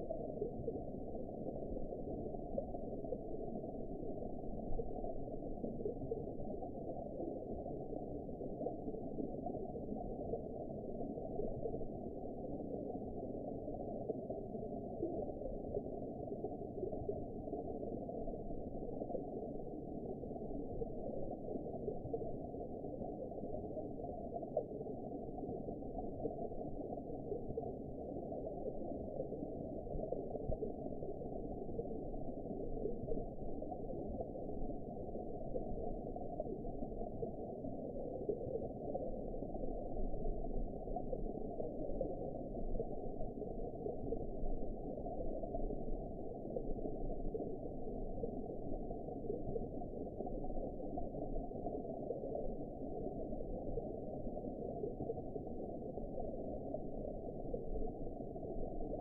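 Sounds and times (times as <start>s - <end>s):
muffled underwater rush: 0.0s - 59.0s.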